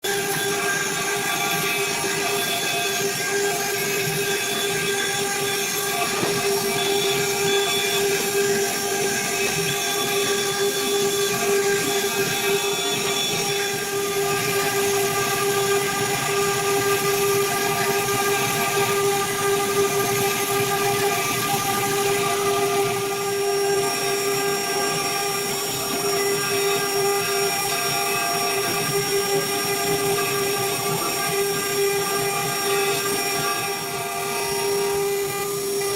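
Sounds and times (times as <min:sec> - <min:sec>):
router spindle motor whine: 0:00.0 - 0:35.9
hiss of cutting noise: 0:00.4 - 0:18.6, 0:19.6 - 0:35.9.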